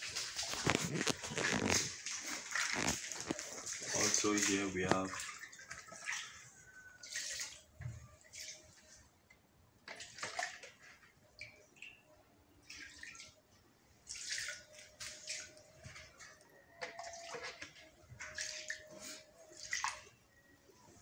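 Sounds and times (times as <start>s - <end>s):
liquid splashing into pond: 0.0s - 8.7s, 9.8s - 13.4s, 14.0s - 20.2s.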